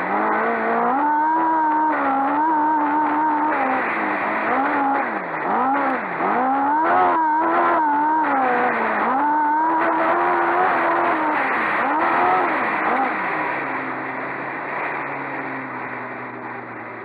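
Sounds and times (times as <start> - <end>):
racing engine revving: 0.0 - 17.0.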